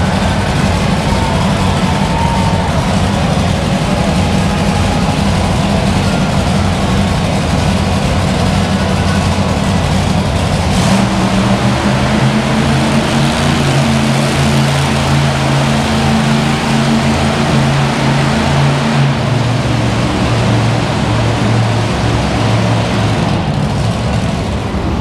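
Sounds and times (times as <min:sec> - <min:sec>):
monster truck engine running: 0:00.0 - 0:25.0.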